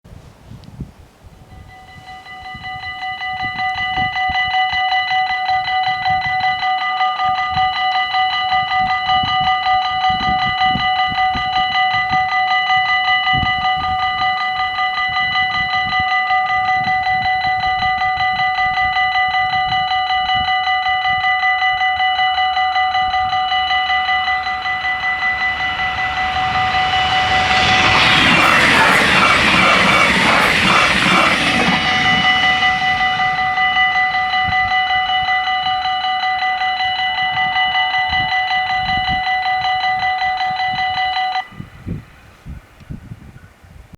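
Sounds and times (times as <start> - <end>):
train approaching: 1.5 - 42.4.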